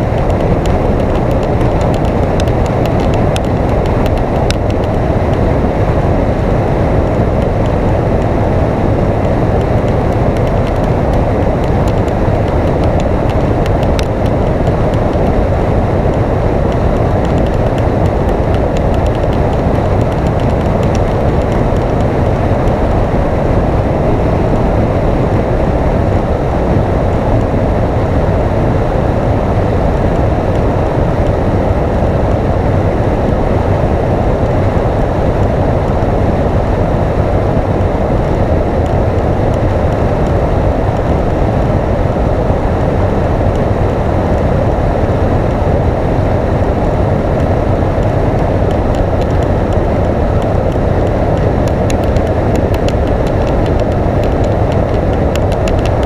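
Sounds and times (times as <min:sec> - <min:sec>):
road noise: 0:00.0 - 0:56.0
wind rushing on microphone: 0:00.0 - 0:56.0.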